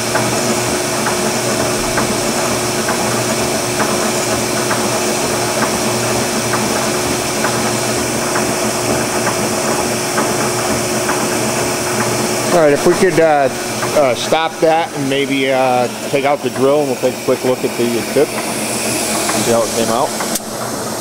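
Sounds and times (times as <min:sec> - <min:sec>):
grinder motor humming: 0:00.0 - 0:21.0.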